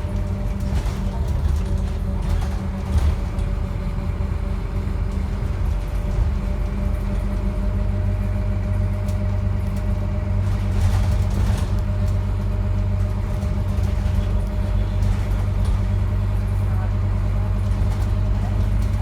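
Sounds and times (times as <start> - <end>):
diesel bus engine droning: 0.0 - 19.0.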